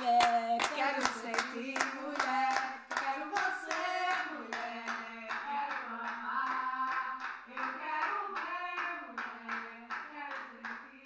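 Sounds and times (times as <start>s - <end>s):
people clapping in time: 0.0s - 11.0s
women singing: 0.0s - 11.0s.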